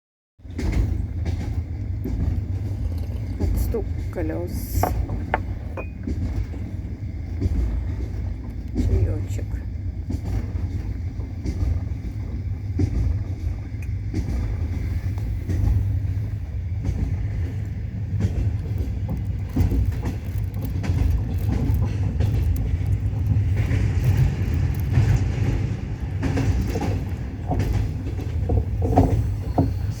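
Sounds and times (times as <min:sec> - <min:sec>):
train rumble inside carriage: 0:00.4 - 0:30.0
train wheels clattering on rails: 0:00.4 - 0:30.0.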